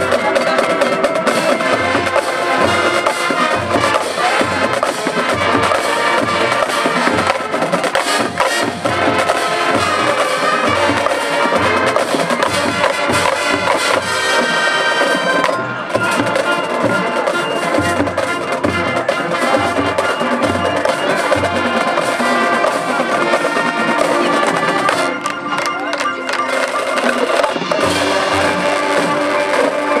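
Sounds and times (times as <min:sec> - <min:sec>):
bass drums and drumline: 0:00.0 - 0:30.0
brass chords: 0:00.0 - 0:30.0
marching band playing: 0:00.0 - 0:30.0.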